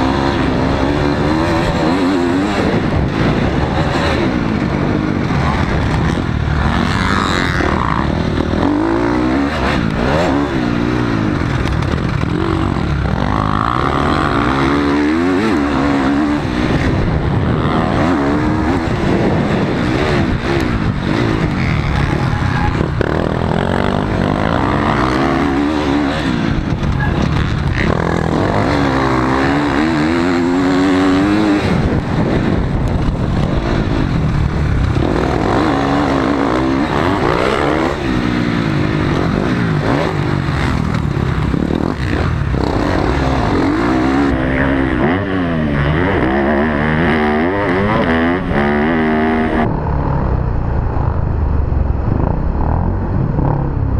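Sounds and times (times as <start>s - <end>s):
dirt bike engine revving: 0.0s - 50.5s
wind rush on microphone: 0.0s - 53.9s.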